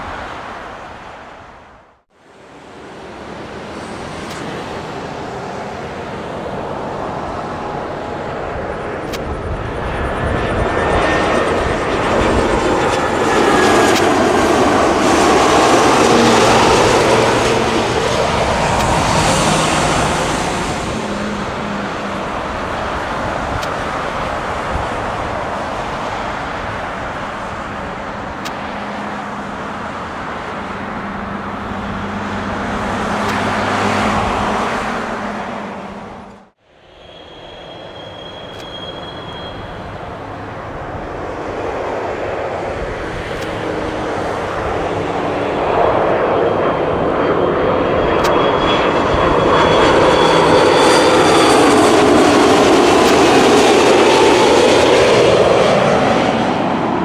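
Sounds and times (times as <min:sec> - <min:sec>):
airliner engines running: 0:00.0 - 0:57.0
plane passing: 0:00.0 - 0:57.0.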